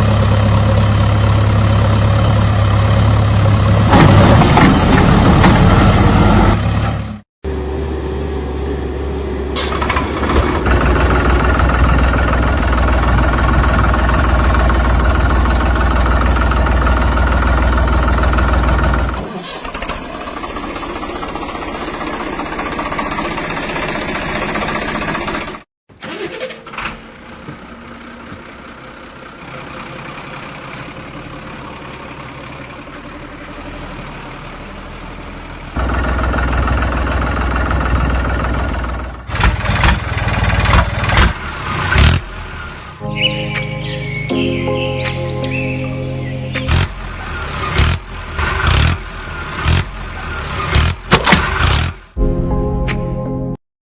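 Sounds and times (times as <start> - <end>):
vehicle engine running: 0.0 - 25.7, 27.0 - 52.2.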